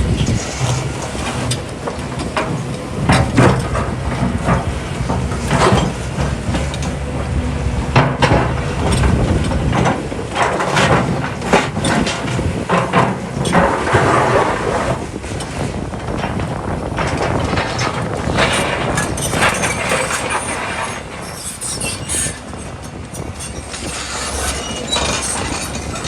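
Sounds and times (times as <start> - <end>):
excavator diesel engine running: 0.0 - 26.0
metallic clanks and knocks: 0.1 - 26.0.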